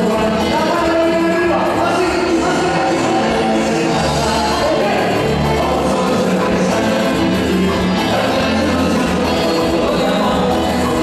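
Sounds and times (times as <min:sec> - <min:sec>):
live band playing dance music: 0:00.0 - 0:11.0
person singing: 0:00.0 - 0:11.0.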